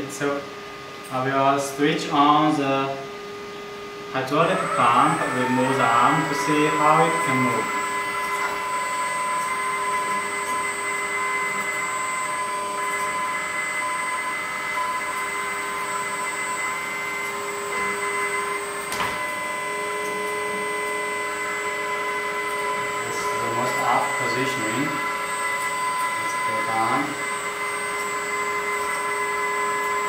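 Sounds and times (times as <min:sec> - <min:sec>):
hydraulic pump whining: 0:03.0 - 0:30.0.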